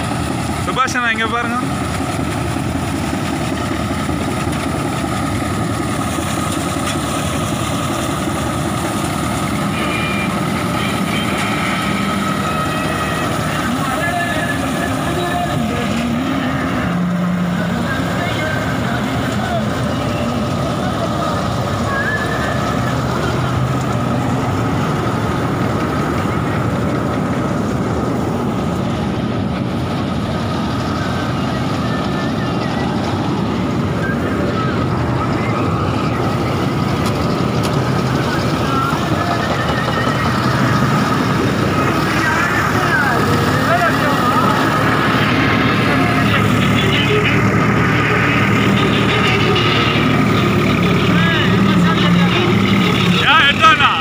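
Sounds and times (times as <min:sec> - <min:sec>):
harvesting machine engine drone: 0:00.0 - 0:54.0.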